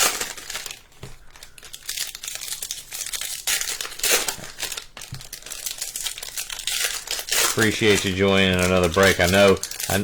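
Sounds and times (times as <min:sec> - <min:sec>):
plastic wrapping crinkling and tearing: 0:00.0 - 0:10.0.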